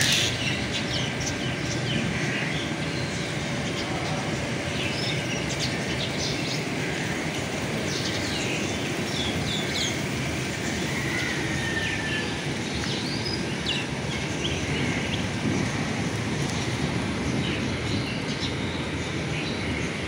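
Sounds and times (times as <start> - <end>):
birds chirping: 0.0 - 20.0
rushing background noise: 0.0 - 20.0.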